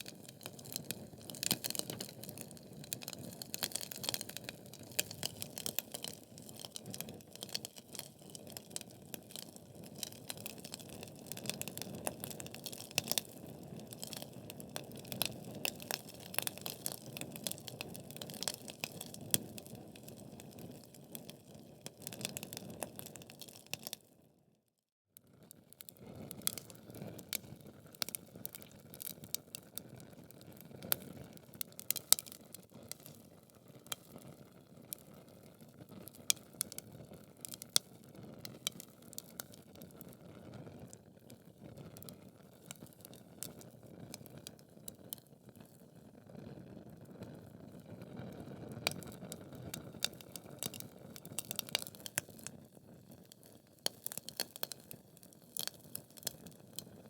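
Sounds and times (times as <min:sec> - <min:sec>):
fire crackling and popping: 0:00.0 - 0:24.1, 0:25.7 - 0:46.2, 0:47.0 - 0:57.0.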